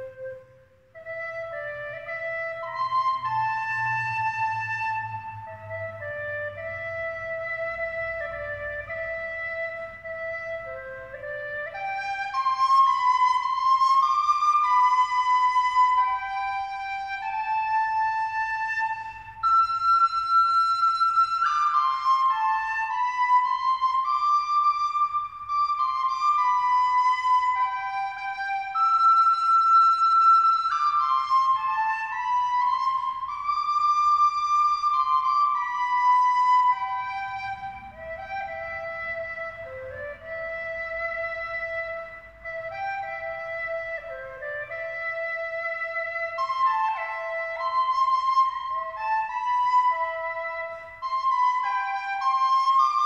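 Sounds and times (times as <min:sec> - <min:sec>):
wind instrument melody: 0:00.0 - 0:53.0.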